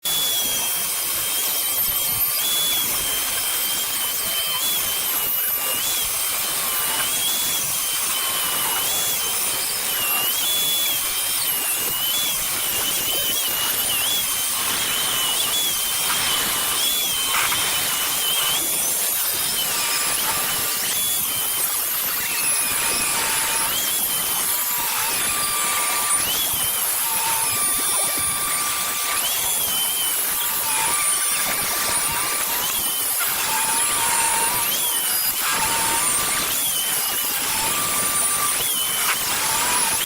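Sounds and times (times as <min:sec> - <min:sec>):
power tool whining on wood: 0:00.0 - 0:40.0.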